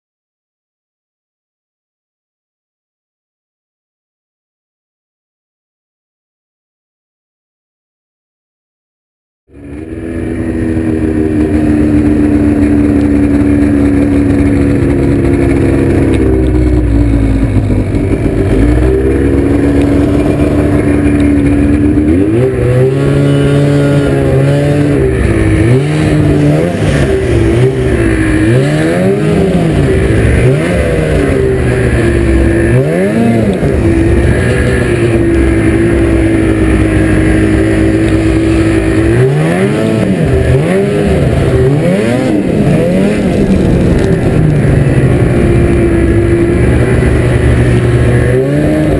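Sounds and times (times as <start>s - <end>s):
snowmobile engine revving: 9.5s - 48.9s.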